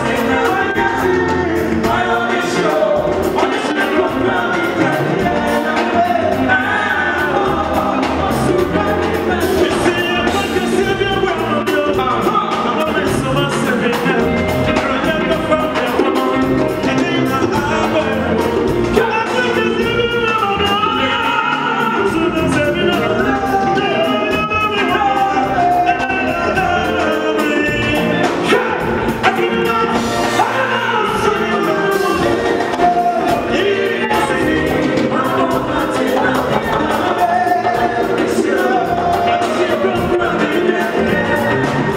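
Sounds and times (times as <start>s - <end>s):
guitars: 0.0s - 41.9s
men singing: 0.0s - 41.9s
steady drum beat: 0.0s - 41.9s.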